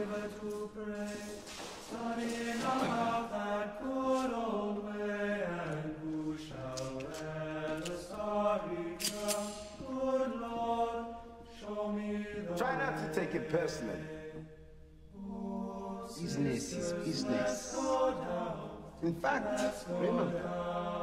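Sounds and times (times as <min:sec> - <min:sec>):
slow sung song: 0:00.0 - 0:21.0.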